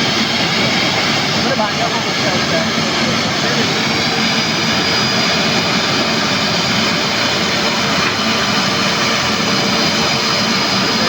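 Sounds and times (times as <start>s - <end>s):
engine roar: 0.0s - 11.0s.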